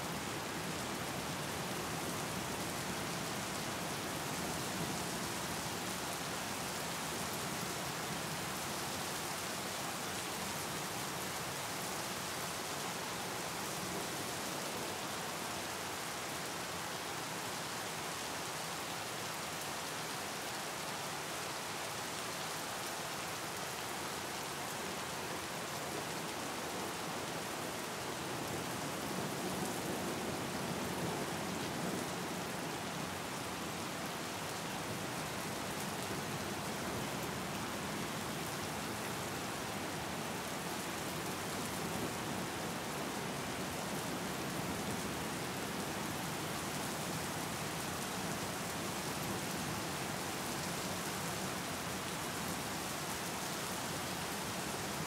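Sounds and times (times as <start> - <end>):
rain falling on water: 0.0 - 55.0.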